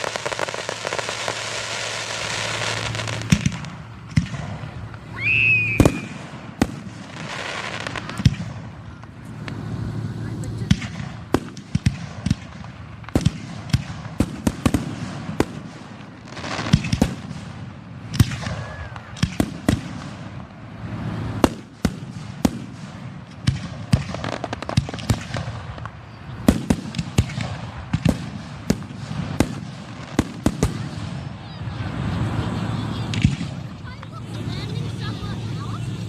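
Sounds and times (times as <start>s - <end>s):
fireworks rumble and crackle: 0.0s - 36.0s
fireworks sharp bangs: 0.0s - 36.0s.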